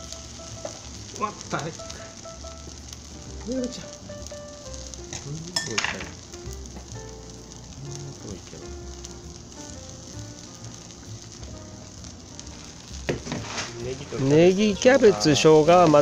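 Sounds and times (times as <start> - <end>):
batter sizzling in a hot pan: 0.0 - 16.0.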